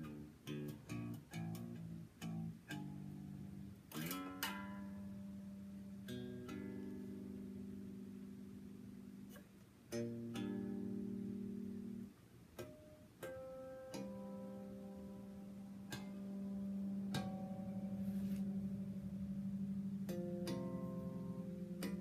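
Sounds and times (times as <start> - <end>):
electric bass notes: 0.0 - 22.0.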